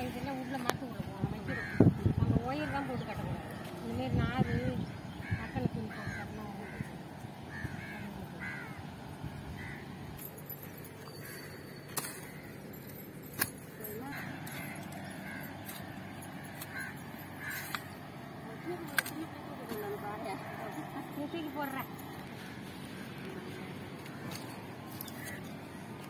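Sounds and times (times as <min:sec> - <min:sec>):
bird calling: 0:03.9 - 0:26.0.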